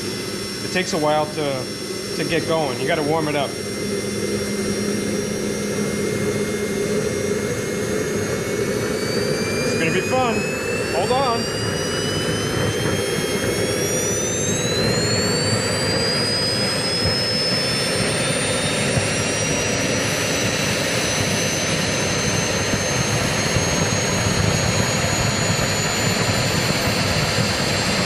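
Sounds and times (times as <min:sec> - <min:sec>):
jet motor roar and whine: 0:00.0 - 0:28.0.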